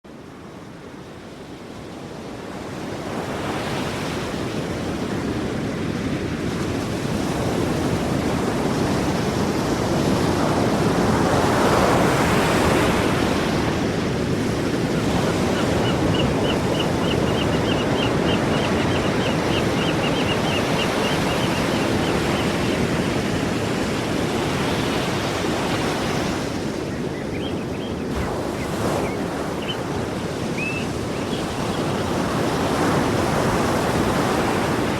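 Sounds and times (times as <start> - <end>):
sea waves washing ashore: 0.1 - 34.9.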